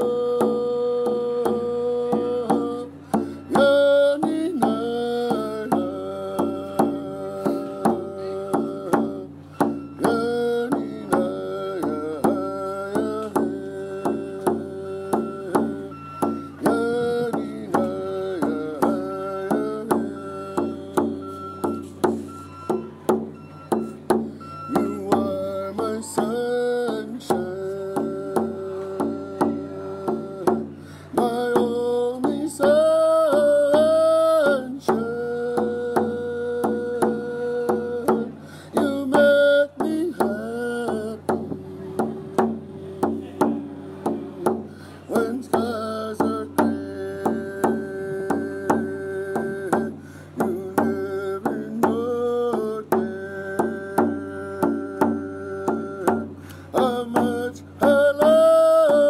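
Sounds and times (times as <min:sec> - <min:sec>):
hand drum beat: 0:00.0 - 0:59.0
man singing long notes: 0:00.0 - 0:59.0.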